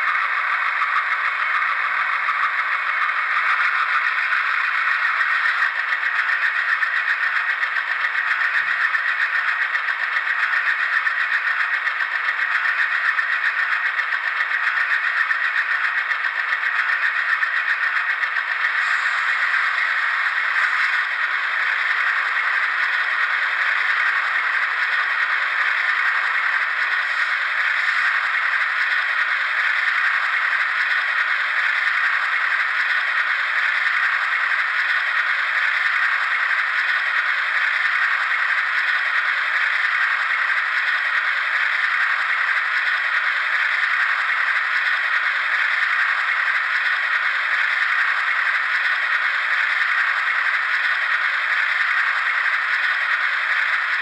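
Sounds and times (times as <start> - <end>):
model locomotive sound rattling hiss: 0.0 - 54.0.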